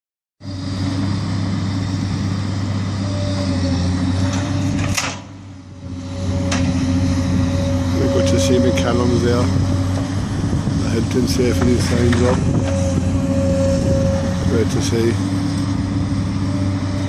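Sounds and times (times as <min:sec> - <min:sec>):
engine droning: 0:00.4 - 0:17.0.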